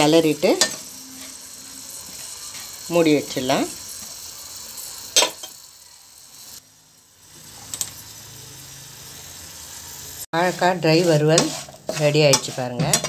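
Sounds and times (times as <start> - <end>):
faint food sizzling: 0.0 - 13.0.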